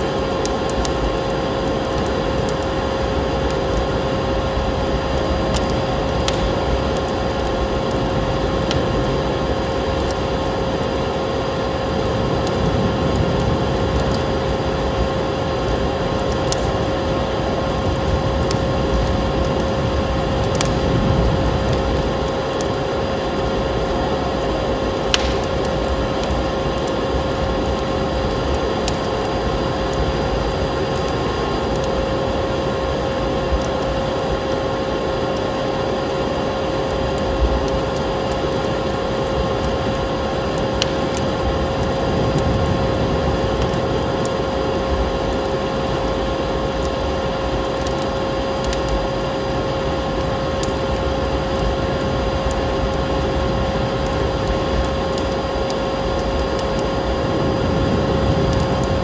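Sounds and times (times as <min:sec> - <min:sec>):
steady hum: 0:00.0 - 0:59.0
wood fire crackling: 0:00.0 - 0:59.0.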